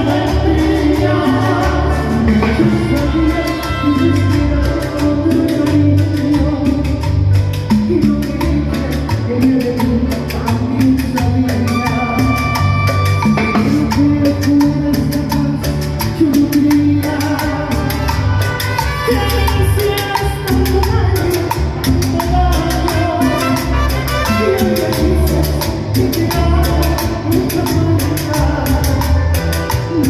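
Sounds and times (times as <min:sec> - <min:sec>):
live tropical dance band: 0:00.0 - 0:30.0.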